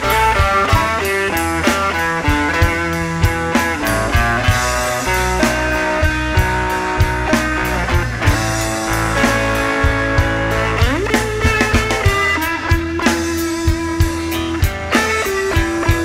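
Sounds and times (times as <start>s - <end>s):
bass guitar: 0.0s - 16.0s
drums: 0.0s - 16.0s
electric guitar lead: 0.0s - 16.0s.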